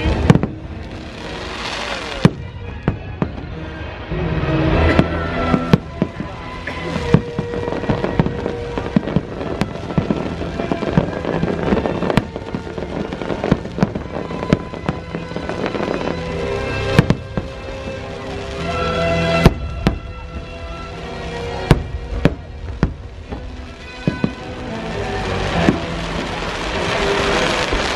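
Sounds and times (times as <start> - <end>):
fireworks bursting: 0.0 - 27.9
music soundtrack: 0.0 - 27.9.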